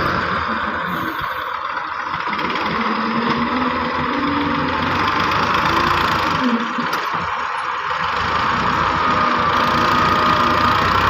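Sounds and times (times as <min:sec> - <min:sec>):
tractor diesel engine working: 0:00.0 - 0:11.0.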